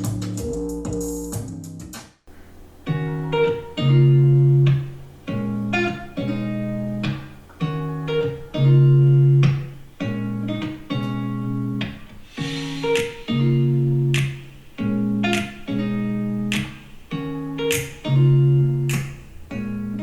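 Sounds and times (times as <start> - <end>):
song with plucked guitar and bass: 0.0 - 1.9, 2.8 - 20.0.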